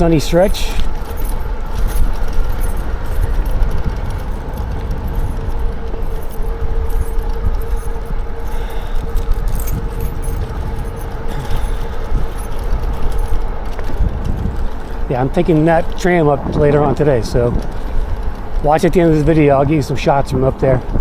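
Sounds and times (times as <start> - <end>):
light metallic rattle: 0.0 - 20.0
faint steady whine: 0.0 - 20.7
tyre noise on pavement: 0.0 - 21.0
wind rumbling on microphone: 0.0 - 21.0.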